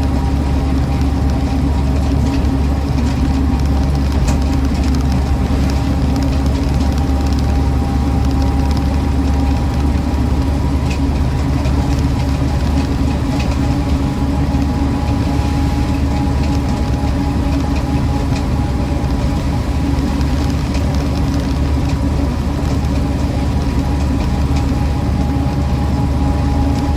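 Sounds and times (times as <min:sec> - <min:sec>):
car engine droning: 0:00.0 - 0:26.9.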